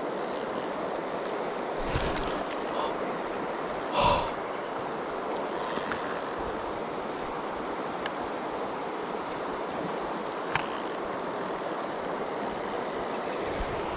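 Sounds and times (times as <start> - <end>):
stream water rushing: 0.0 - 13.9.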